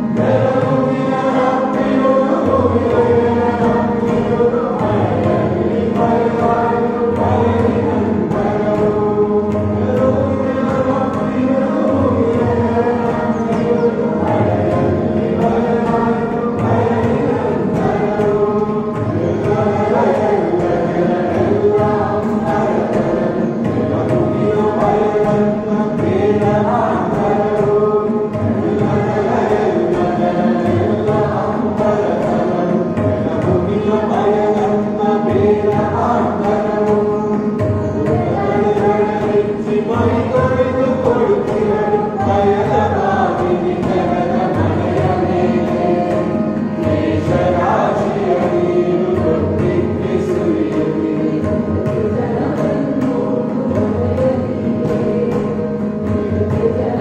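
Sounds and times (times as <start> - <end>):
group singing in unison: 0.0 - 57.0.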